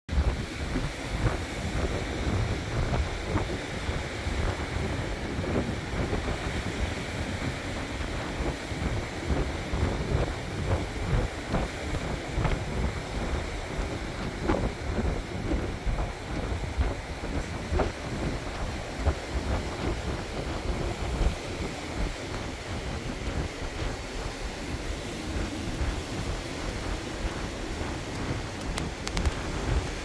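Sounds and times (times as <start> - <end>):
sea waves breaking on shore: 0.1 - 30.0.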